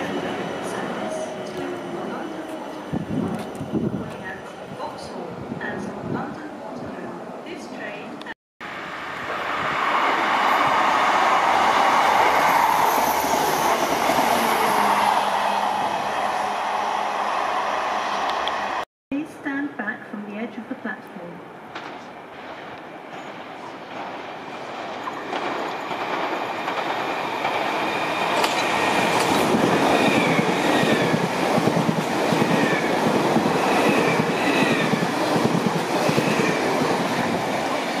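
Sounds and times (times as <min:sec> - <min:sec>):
electric train passing: 0:00.0 - 0:07.1, 0:08.6 - 0:18.8, 0:21.7 - 0:38.0.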